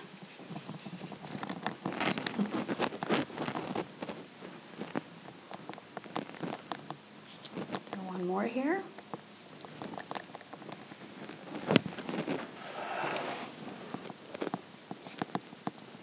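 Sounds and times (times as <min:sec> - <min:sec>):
plant material rustling: 0:00.0 - 0:15.8.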